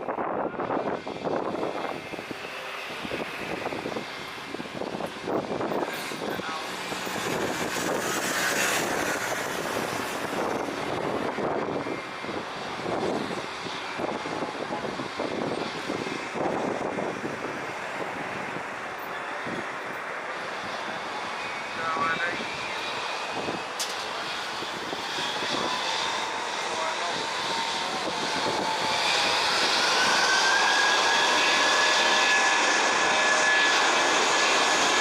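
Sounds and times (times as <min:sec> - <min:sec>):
jet airliner flying past: 0:00.0 - 0:35.0.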